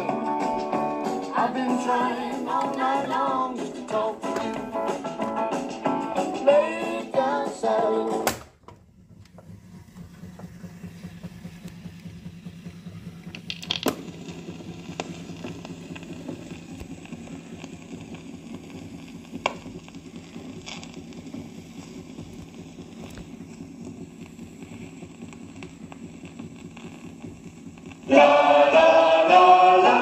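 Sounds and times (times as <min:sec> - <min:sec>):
low steady hum: 0:00.0 - 0:30.0
music from a record player: 0:00.0 - 0:30.0.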